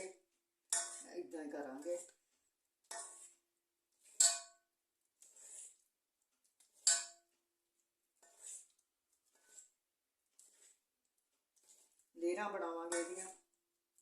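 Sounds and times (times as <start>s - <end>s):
metal utensils scraping a pan: 0.7s - 7.4s, 8.1s - 13.5s.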